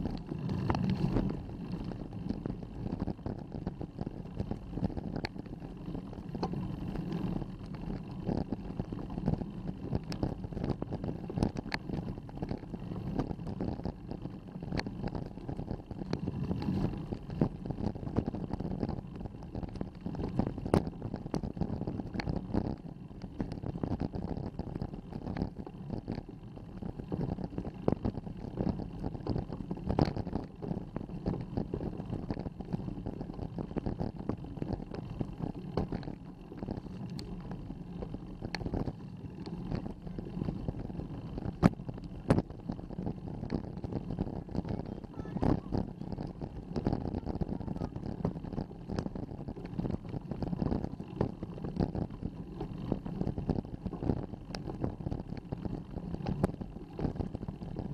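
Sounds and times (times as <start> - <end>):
bicycle clicks and rattles: 0.0 - 57.9
bicycle rumble: 0.0 - 57.9.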